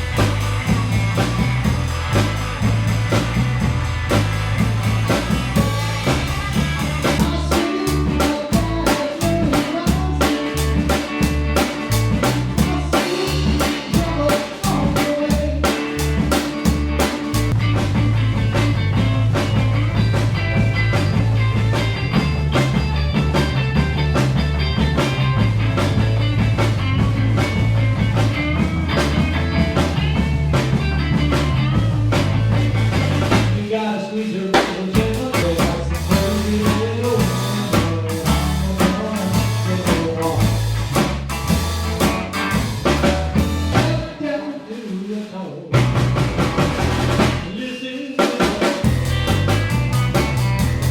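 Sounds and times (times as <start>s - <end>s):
heavy bass line: 0.0s - 33.7s, 34.8s - 44.4s, 45.8s - 47.6s, 48.6s - 50.9s
rock band playing: 0.0s - 50.9s.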